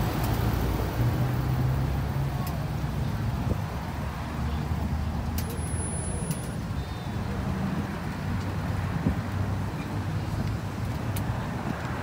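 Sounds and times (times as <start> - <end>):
road traffic noise: 0.0 - 12.0
vehicle engines humming: 0.0 - 12.0.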